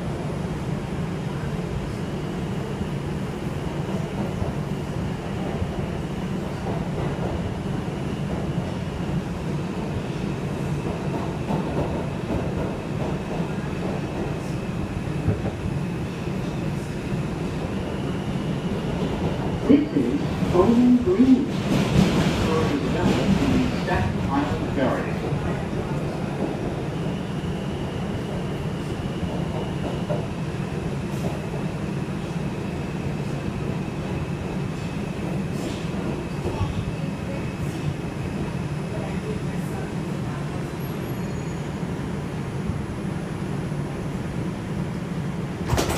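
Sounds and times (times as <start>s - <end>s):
wheels rumbling on rail: 3.7s - 45.9s.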